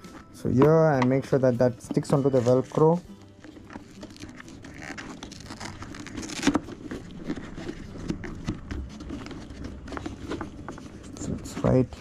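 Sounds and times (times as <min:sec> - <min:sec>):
fabric and foam rustling: 0:00.0 - 0:12.0.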